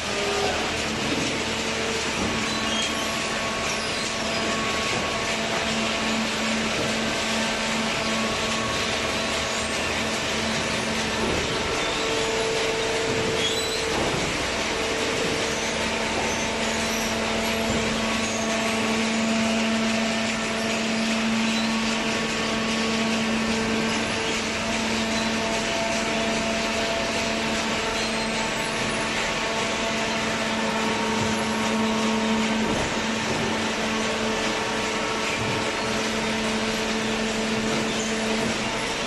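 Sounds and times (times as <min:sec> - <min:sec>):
hydraulic baler humming: 0:00.0 - 0:39.0.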